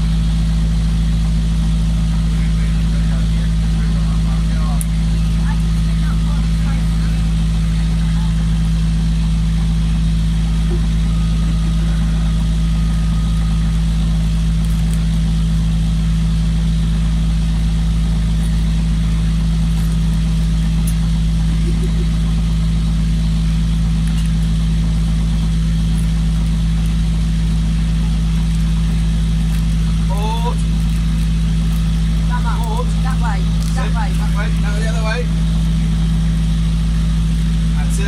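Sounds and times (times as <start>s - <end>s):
boat engine drone: 0.0s - 38.0s.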